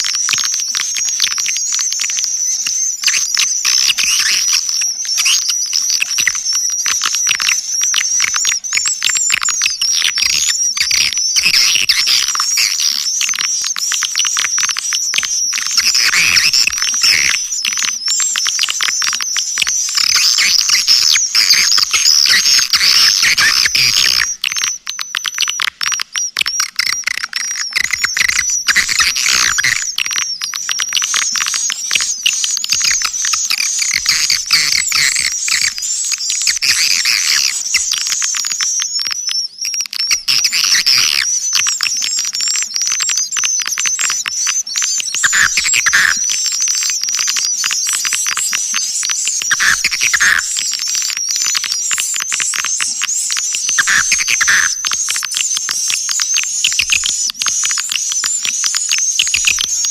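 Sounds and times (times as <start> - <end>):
recorded swiftlet chirps and clicks: 0.0 - 59.9.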